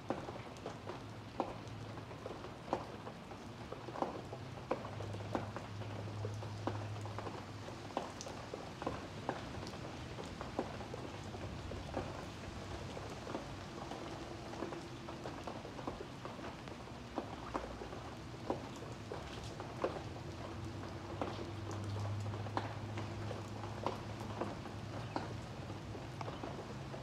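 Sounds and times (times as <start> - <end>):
raindrops ticking: 0.0 - 27.0.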